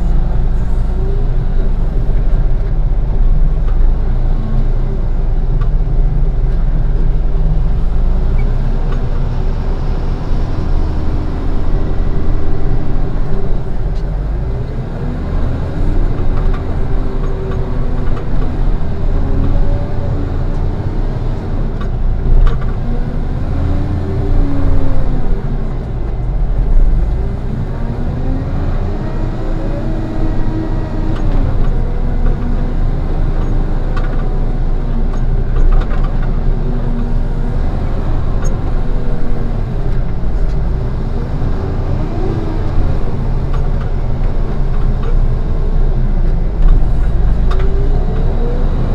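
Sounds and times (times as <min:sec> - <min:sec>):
diesel engine working under load: 0:00.0 - 0:48.9.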